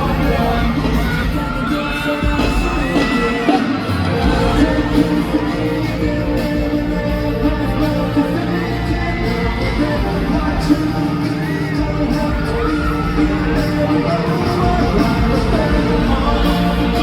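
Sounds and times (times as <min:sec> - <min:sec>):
person singing: 0:00.0 - 0:17.0
pop song over sound system: 0:00.0 - 0:17.0.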